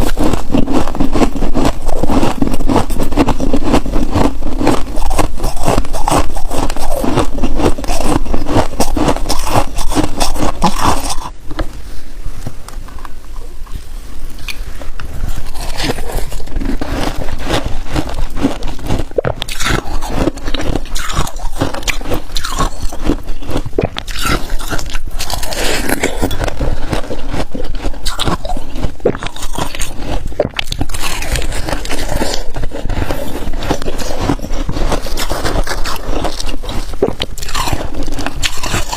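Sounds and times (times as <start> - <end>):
chewing frost: 0.0 - 11.4, 12.4 - 38.9
frost scraping and crunching: 0.0 - 38.9.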